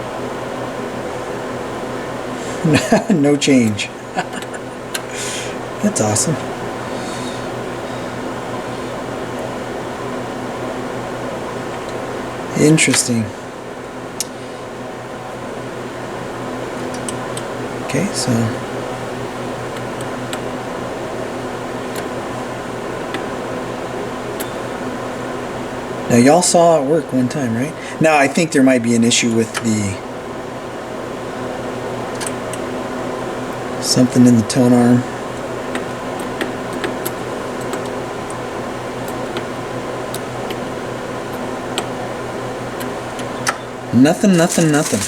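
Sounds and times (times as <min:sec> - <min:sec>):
mechanical hum with buzz and hiss: 0:00.0 - 0:45.0.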